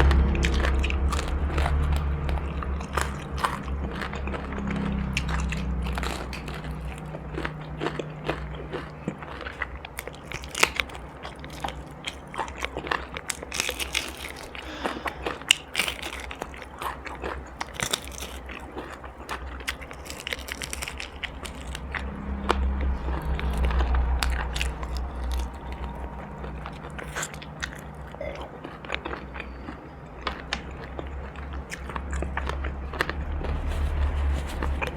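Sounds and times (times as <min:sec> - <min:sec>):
chewing crunchy food: 0:00.0 - 0:34.9
faint low hum: 0:00.0 - 0:34.9.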